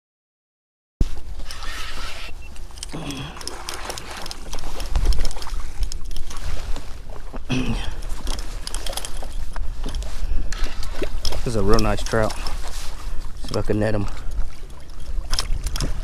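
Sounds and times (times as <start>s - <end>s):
water against kayak hull: 1.0s - 16.0s.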